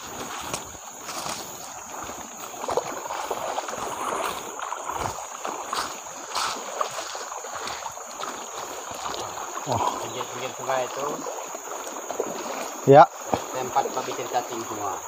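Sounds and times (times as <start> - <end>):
footsteps wading through stream: 0.0 - 15.0.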